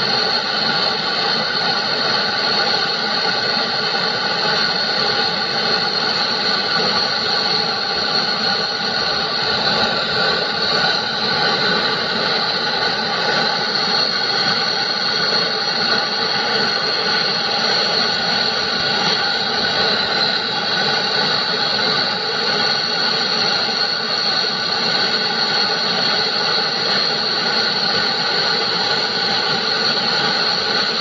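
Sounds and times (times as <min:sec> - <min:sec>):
gas torch flame hissing: 0:00.0 - 0:31.0.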